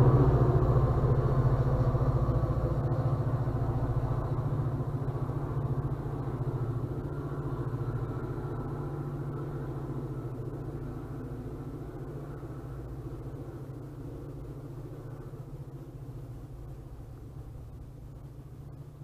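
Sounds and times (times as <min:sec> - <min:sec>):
diesel locomotive engine running: 0:00.0 - 0:19.0.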